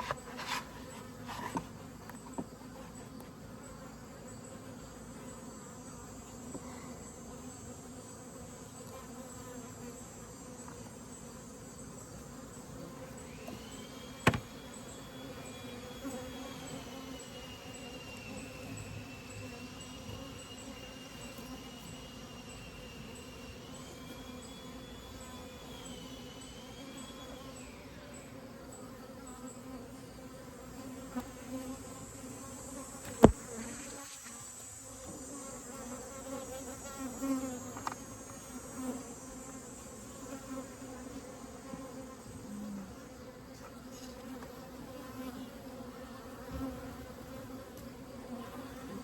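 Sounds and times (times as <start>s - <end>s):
honeybees buzzing: 0.0s - 49.0s.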